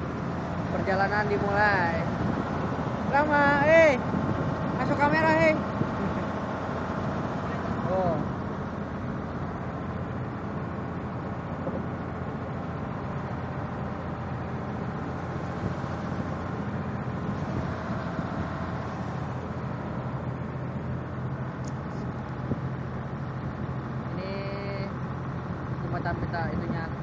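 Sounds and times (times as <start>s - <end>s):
constant rushing noise: 0.0s - 27.0s
engine low drone: 0.0s - 27.0s.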